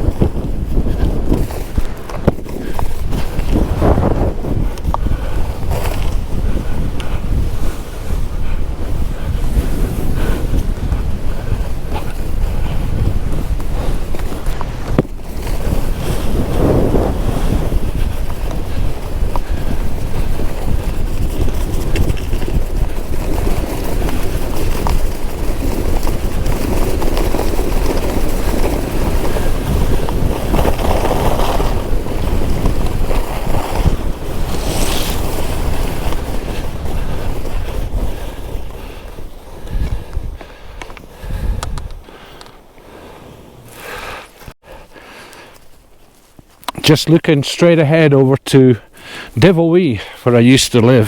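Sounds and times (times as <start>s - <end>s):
skis hissing through snow: 0.0s - 25.9s, 26.5s - 40.3s, 42.0s - 46.6s
wind buffeting microphone: 0.0s - 47.2s.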